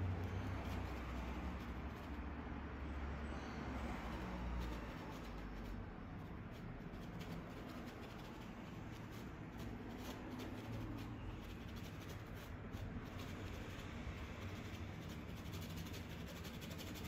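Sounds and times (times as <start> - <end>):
paintbrush scratching on canvas: 0.0 - 17.0.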